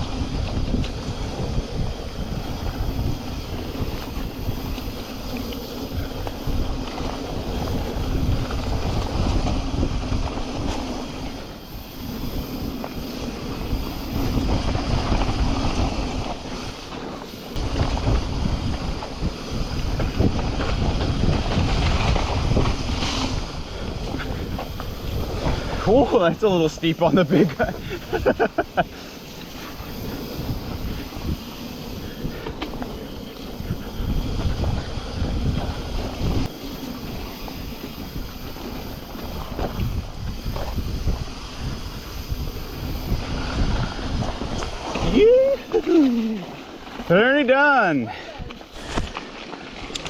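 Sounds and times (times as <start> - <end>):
wind on camera microphone: 0.0 - 28.8, 29.5 - 47.2
bike tyres rattling on dirt trail: 0.0 - 50.0.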